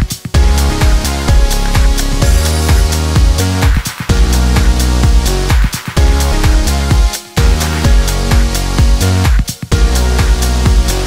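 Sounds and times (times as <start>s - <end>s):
electronic dance music: 0.0s - 11.0s
kick-drum beat: 0.0s - 11.0s.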